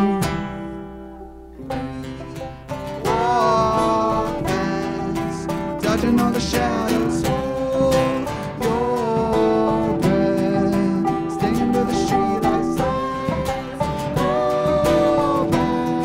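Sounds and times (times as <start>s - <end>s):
acoustic guitar chords: 0.0s - 16.0s
gliding melody line: 0.8s - 16.0s.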